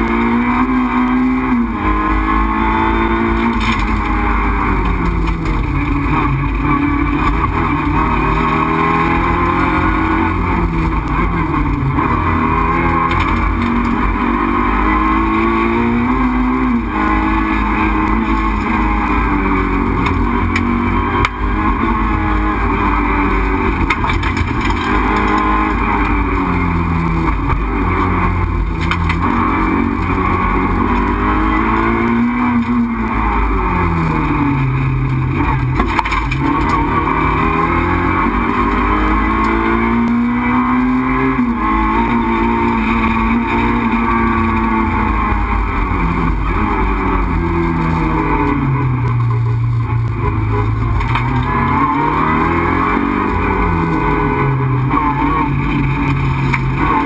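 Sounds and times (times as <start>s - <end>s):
car engine revving: 0.0s - 57.0s
road and drivetrain noise: 0.0s - 57.0s.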